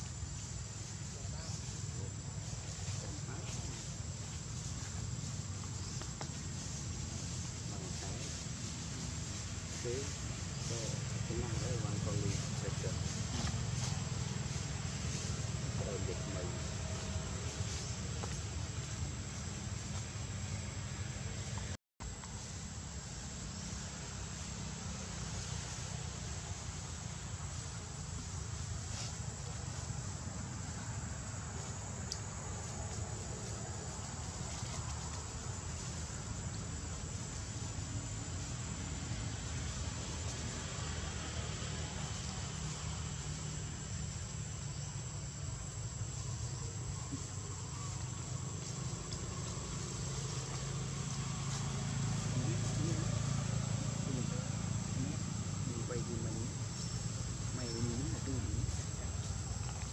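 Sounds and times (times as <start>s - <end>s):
even hiss: 0.0s - 59.9s
insects droning: 0.0s - 59.9s.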